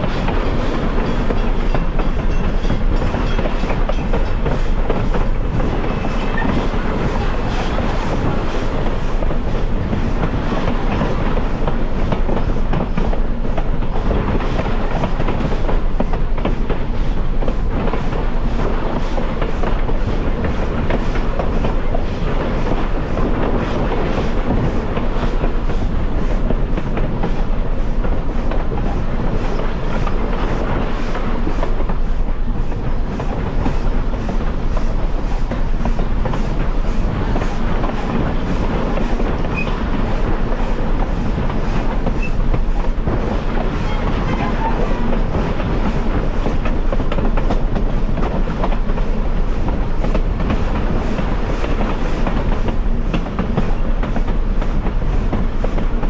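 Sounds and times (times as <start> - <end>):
rail clicks: 0.0 - 56.0
train wheels rumbling on rails: 0.0 - 56.0.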